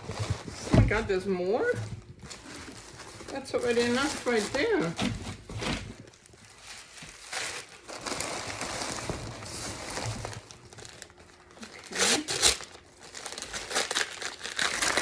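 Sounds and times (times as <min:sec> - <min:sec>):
packaging crinkling and tearing: 0:00.0 - 0:15.0.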